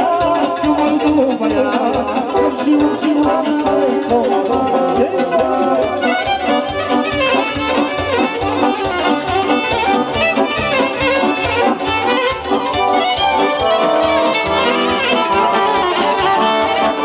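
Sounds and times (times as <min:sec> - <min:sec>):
accordion: 0:00.0 - 0:17.0
fast electronic keyboard beat: 0:00.0 - 0:17.0
violin melody: 0:01.4 - 0:17.0.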